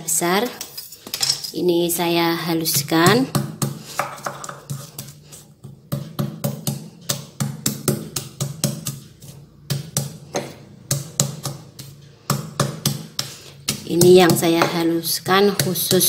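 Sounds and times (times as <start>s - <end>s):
stone pestle pounding in mortar: 2.6s - 16.0s.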